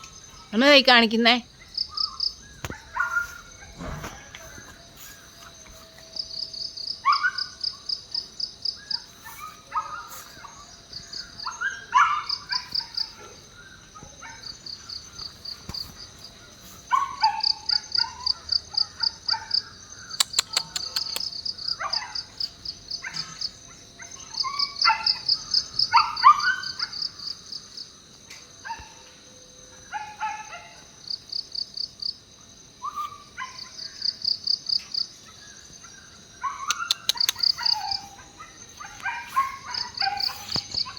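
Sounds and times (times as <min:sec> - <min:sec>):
insects chirping in pulses: 0:00.0 - 0:40.9.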